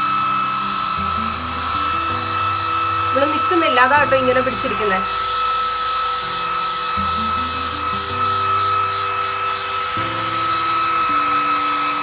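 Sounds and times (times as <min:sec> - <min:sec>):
background music with low notes: 0:00.0 - 0:12.0
hair dryer blowing: 0:00.0 - 0:12.0.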